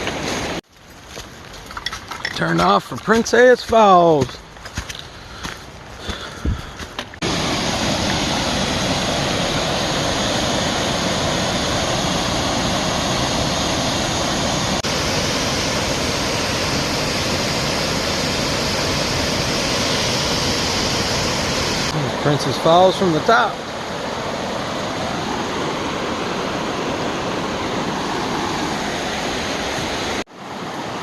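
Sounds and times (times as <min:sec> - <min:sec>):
waterfall rushing: 0:02.6 - 0:04.3, 0:07.2 - 0:31.0.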